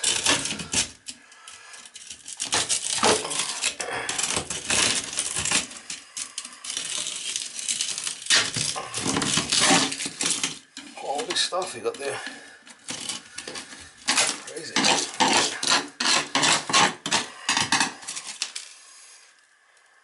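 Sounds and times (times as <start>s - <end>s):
packaging crinkling: 0.0s - 18.8s.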